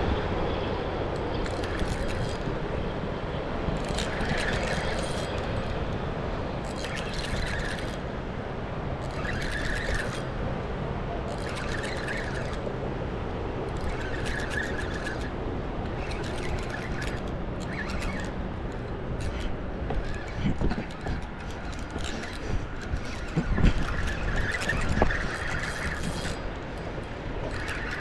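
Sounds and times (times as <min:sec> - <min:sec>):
fishing reel whirring: 0:01.1 - 0:02.7, 0:03.7 - 0:28.0.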